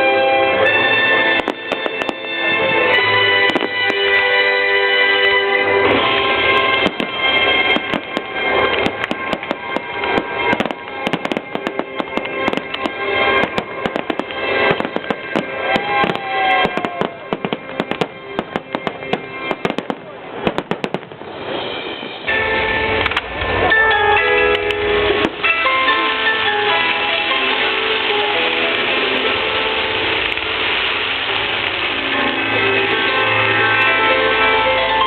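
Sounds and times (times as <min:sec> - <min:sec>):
fireworks bursting and crackling: 0:00.0 - 0:35.0
music playing: 0:00.0 - 0:35.0.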